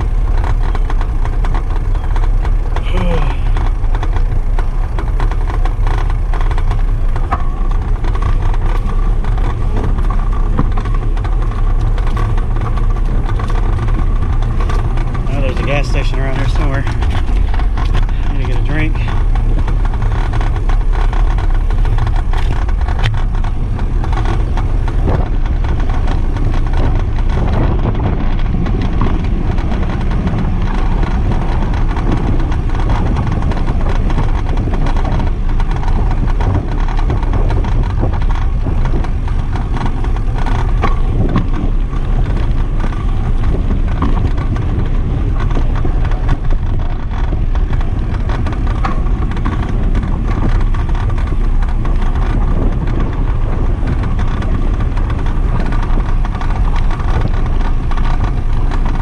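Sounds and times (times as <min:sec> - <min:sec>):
tyres rattling on brick path: 0:00.0 - 0:59.0
wind rush on microphone: 0:00.0 - 0:59.0.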